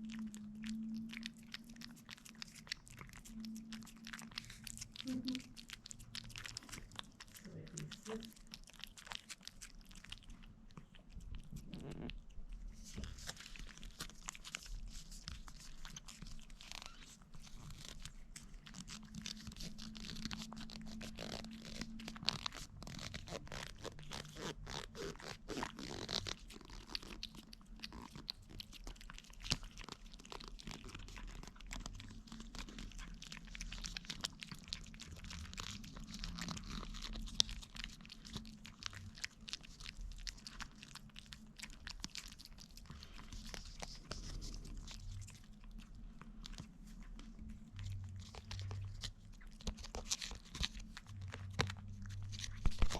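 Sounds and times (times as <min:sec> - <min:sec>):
cats licking wet clicks: 0:00.0 - 0:52.9.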